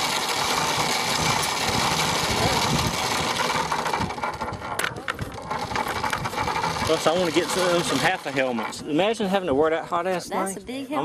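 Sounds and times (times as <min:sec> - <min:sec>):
mini dirt bike engine buzzing: 0:00.0 - 0:09.4.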